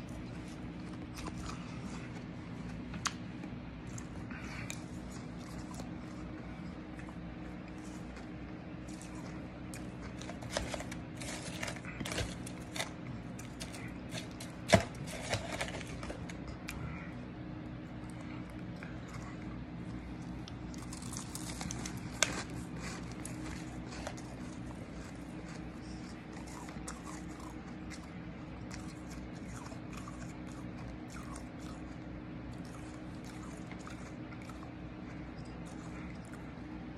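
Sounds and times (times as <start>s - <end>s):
steady low hum: 0.0s - 36.9s
ice crunching while chewing: 3.8s - 17.0s, 17.6s - 36.9s.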